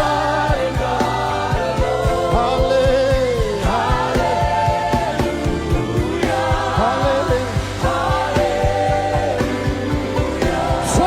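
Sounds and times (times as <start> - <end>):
band with bass and beat: 0.0 - 11.0
voices singing gospel song: 0.0 - 11.0.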